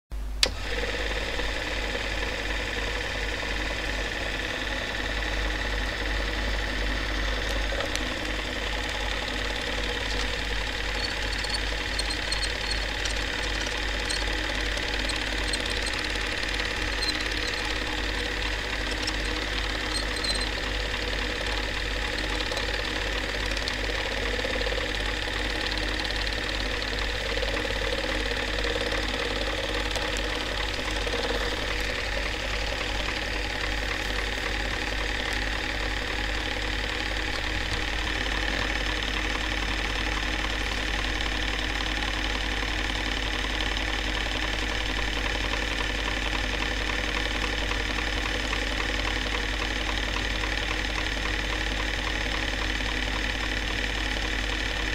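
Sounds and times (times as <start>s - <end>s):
film projector clattering: 0.4s - 54.9s.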